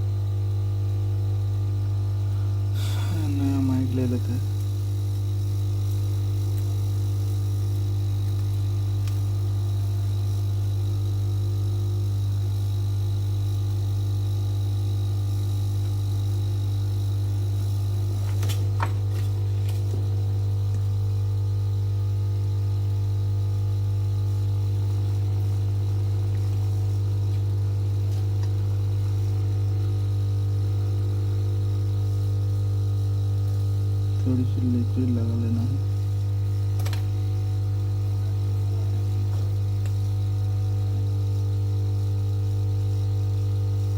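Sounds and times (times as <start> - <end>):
buzzy electrical mains hum: 0.0 - 43.9.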